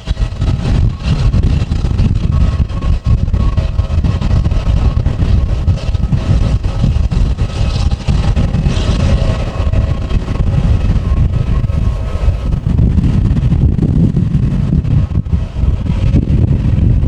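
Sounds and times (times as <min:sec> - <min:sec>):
jet engines whining: 0:00.0 - 0:17.0
wind buffeting microphone: 0:00.0 - 0:17.0.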